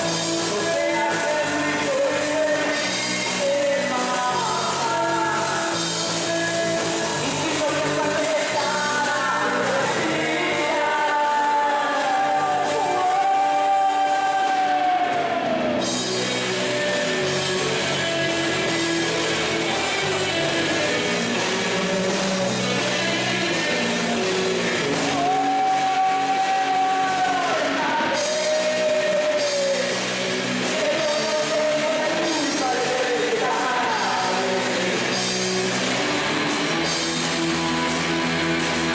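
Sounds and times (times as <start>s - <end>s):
man and woman singing: 0.0s - 15.4s, 16.2s - 35.4s
drums: 0.0s - 38.9s
electric guitar: 0.0s - 38.9s.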